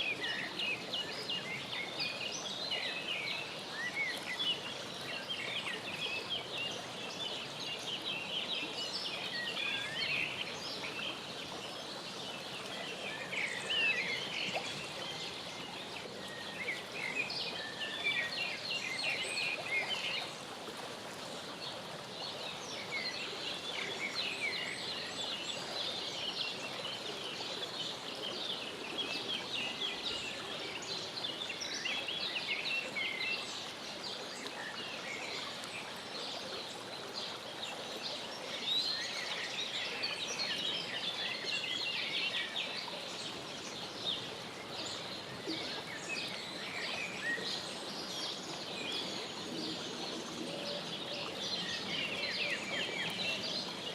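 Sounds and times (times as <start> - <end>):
steady outdoor hiss: 0.0 - 53.9.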